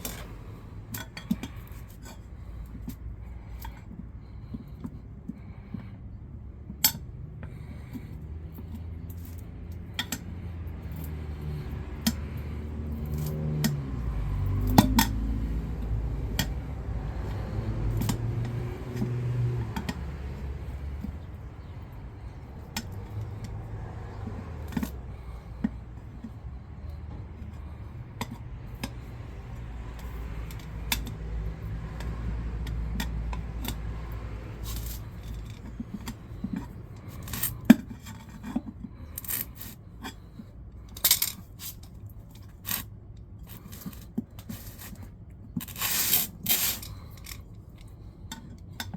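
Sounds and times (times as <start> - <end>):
metallic clinks and scrapes: 0.0 - 3.9, 6.8 - 15.5, 16.2 - 48.9.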